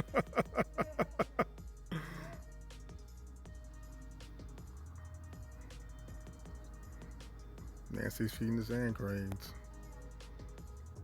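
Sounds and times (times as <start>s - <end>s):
background music with bass beat: 0.0s - 11.0s.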